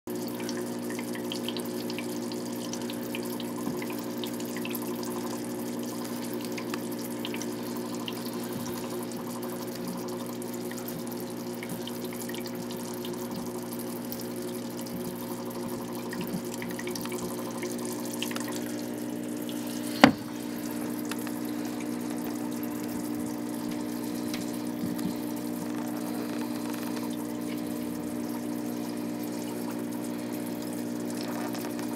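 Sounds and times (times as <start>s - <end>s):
aquarium equipment humming: 0.1s - 31.9s
water trickling: 0.1s - 31.9s.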